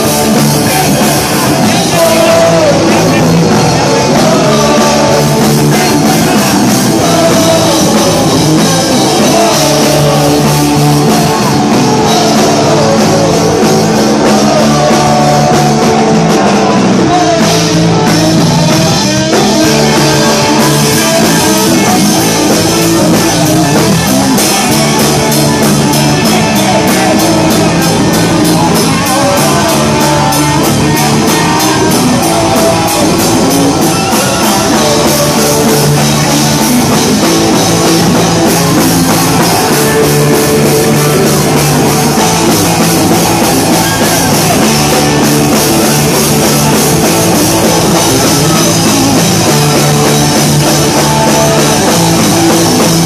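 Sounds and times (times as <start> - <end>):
drum kit: 0.0 - 53.0
electric bass: 0.0 - 53.0
electric guitars: 0.0 - 53.0
person singing: 0.0 - 53.0.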